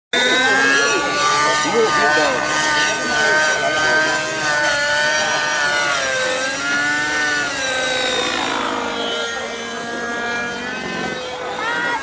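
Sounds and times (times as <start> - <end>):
model helicopter engine buzzing: 0.2 - 12.0.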